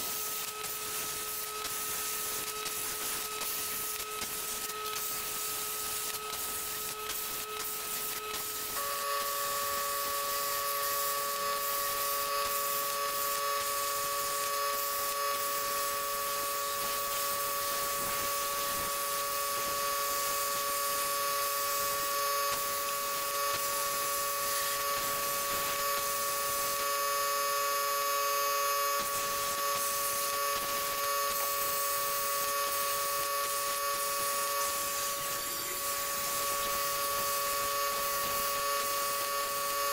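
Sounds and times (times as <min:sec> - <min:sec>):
plasma torch hissing: 0:00.0 - 0:39.9
whining drive motors: 0:00.0 - 0:39.9.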